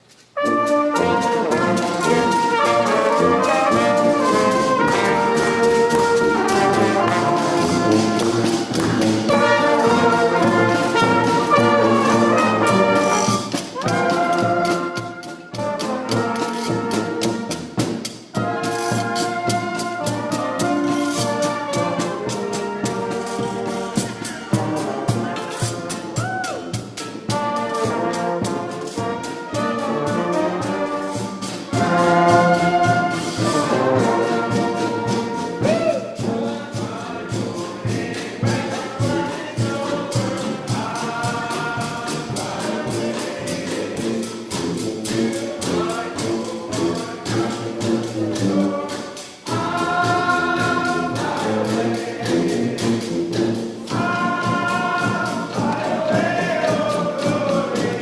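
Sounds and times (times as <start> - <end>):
brass horns playing: 0.4 - 58.0
steady drumbeat: 0.4 - 58.0.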